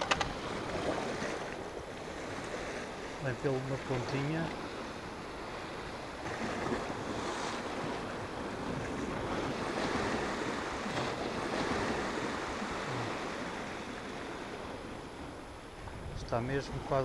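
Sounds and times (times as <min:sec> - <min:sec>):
wind on microphone: 0:00.0 - 0:03.2, 0:04.1 - 0:17.0
sea surf breaking over rocks: 0:00.0 - 0:17.0.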